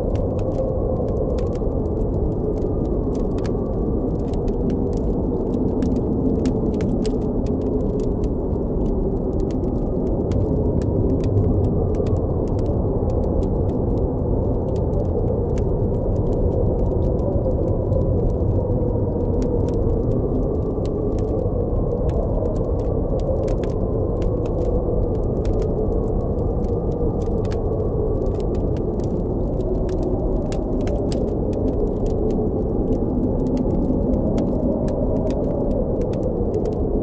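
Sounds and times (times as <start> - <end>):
campfire crackling: 0.0 - 37.0
deep blizzard wind: 0.0 - 37.0.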